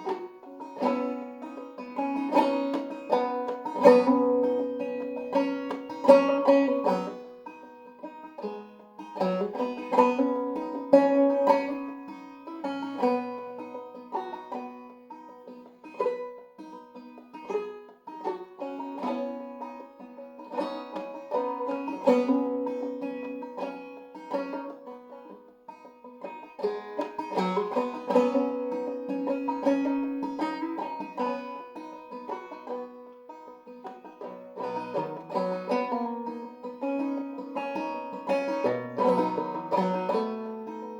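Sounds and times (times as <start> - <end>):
banjo plucked melody with drone: 0.0 - 40.9.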